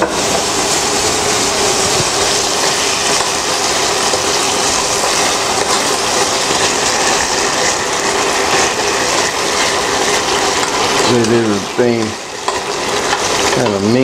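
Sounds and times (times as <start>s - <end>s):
fish sizzling in a frying pan: 0.0s - 14.0s
metal spoon stirring and scraping: 1.8s - 14.0s.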